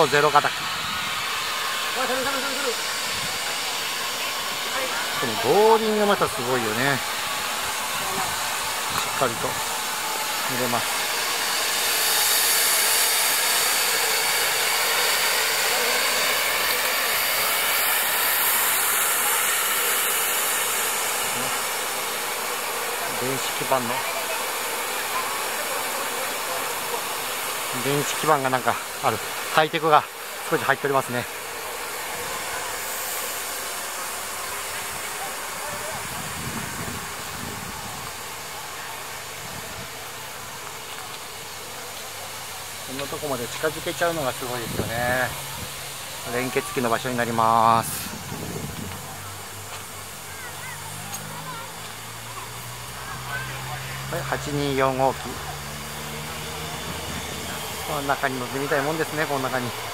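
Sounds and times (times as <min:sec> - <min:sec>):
steam hissing: 0:00.0 - 0:59.9.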